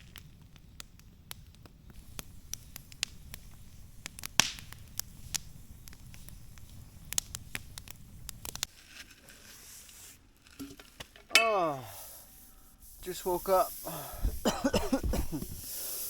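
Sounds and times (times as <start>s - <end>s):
campfire crackling and popping: 0.0s - 16.0s
fire low rumble: 0.0s - 16.0s.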